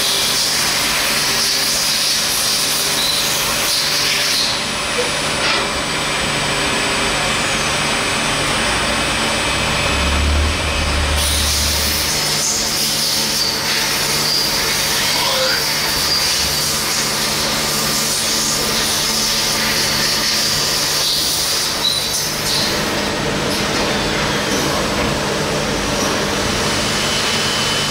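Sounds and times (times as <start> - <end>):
lathe mechanical hum: 0.0 - 27.9.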